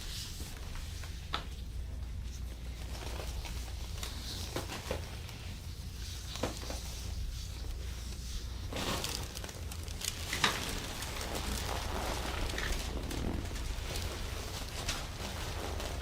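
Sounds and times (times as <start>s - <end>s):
hands rustling while massaging: 0.0s - 16.0s
low room hum: 0.0s - 16.0s.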